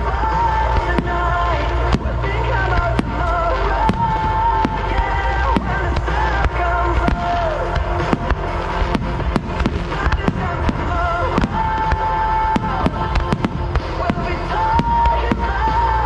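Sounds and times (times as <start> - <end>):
fireworks bursting: 0.0 - 16.0
rock music: 0.0 - 16.0.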